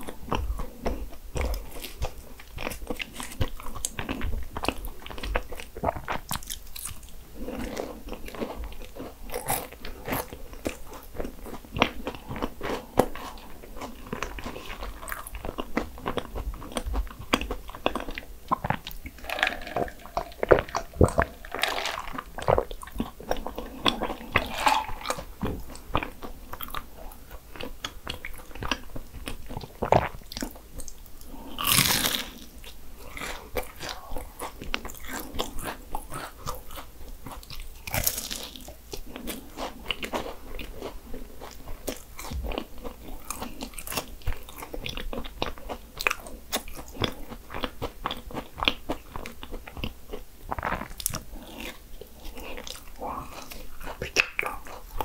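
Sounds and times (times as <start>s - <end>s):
crunchy pastry chewing: 0.0s - 55.0s.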